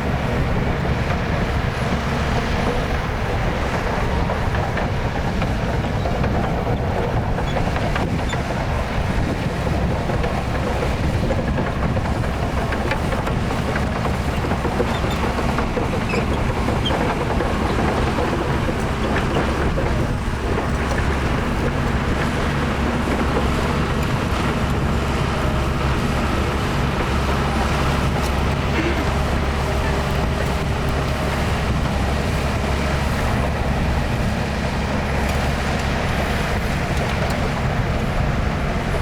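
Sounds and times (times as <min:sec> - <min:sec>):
heavy diesel machinery running: 0:00.0 - 0:39.0.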